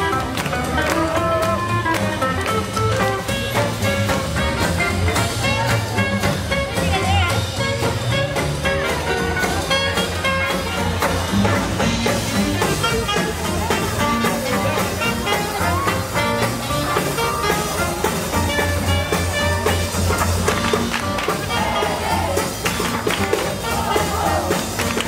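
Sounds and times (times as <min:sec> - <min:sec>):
jazz combo playing swing: 0:00.0 - 0:25.0.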